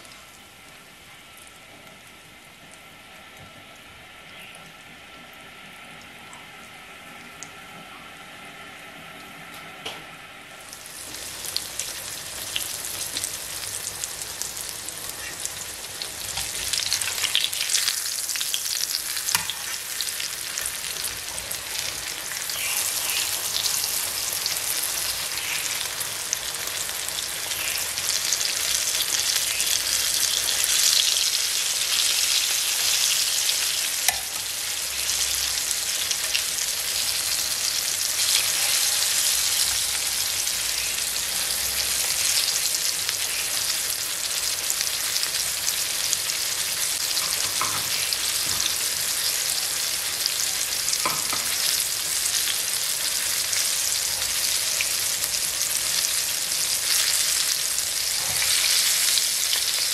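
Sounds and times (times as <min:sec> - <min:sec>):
food sizzling in oil: 0:10.6 - 0:59.9.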